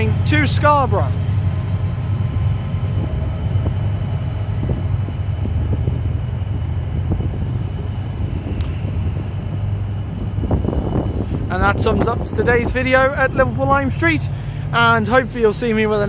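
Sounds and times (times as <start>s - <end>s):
faint whining tones: 0.0s - 15.9s
train engine rumbling: 0.0s - 16.0s.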